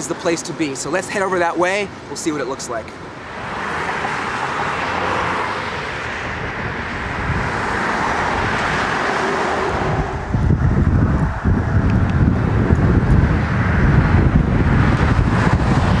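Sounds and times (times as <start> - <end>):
cars driving past: 2.9 - 16.0.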